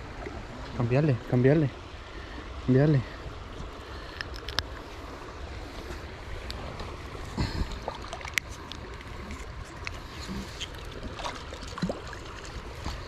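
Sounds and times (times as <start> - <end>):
water and wind noise: 0.0 - 13.0.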